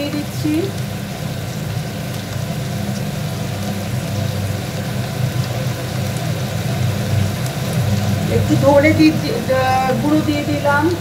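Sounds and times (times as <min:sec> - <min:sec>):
low mechanical hum: 0:00.0 - 0:11.0
spices sizzling in a pan: 0:00.0 - 0:11.0.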